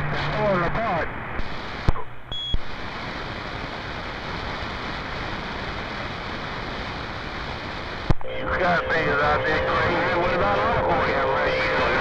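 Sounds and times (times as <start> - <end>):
radio static hiss: 0.2 - 12.0.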